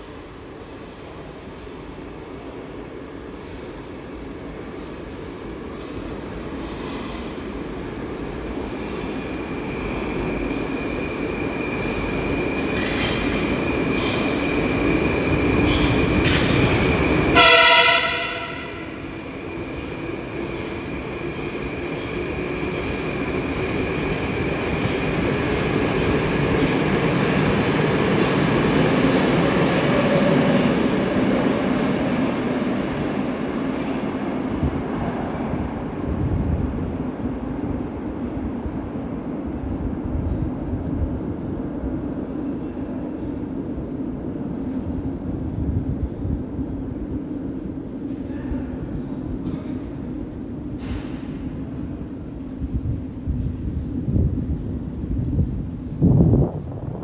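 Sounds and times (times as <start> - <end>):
metro train rumble: 0.0 - 57.0.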